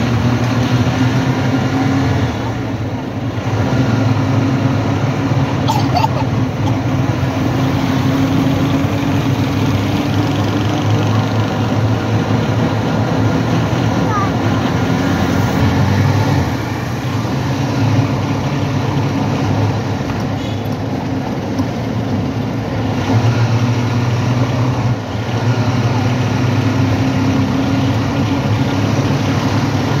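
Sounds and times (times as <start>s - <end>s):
busy street noise: 0.0s - 30.0s
low engine hum: 0.0s - 30.0s.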